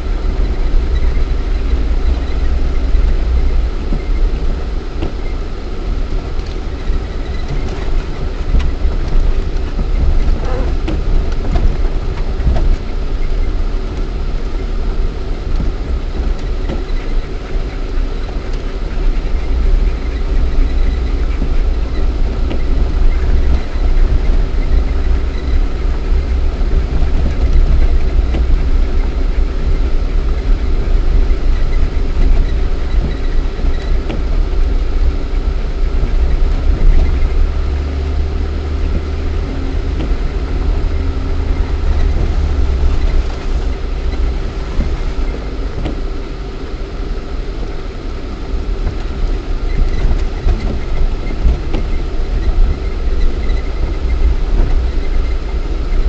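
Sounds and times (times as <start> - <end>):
car engine rumbling off-road: 0.0 - 56.0
steady whine: 0.0 - 56.0.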